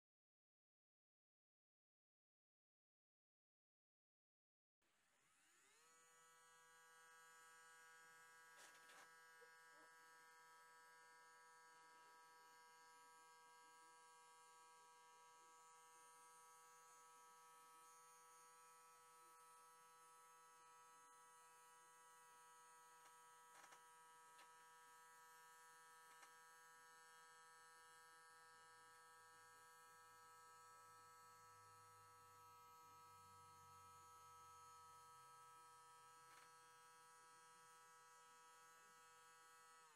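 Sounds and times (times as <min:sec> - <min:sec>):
small motor electric hum: 0:04.8 - 0:39.9.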